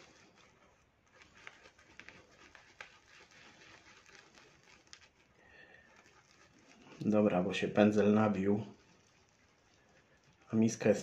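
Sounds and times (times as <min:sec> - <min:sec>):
shaving brush whipping lather: 0:00.0 - 0:11.0.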